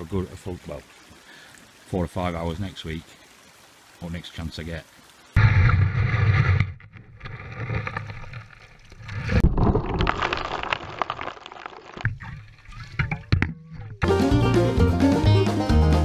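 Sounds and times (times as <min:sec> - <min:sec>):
creek water splashing and gurgling: 0:00.0 - 0:14.1.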